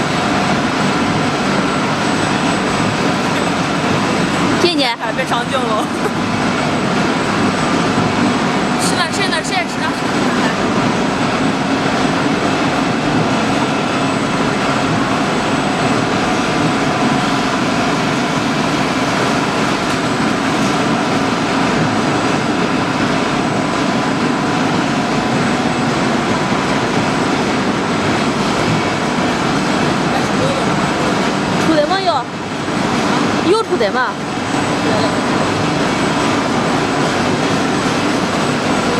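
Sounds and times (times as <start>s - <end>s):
plant machinery running: 0.0s - 38.9s.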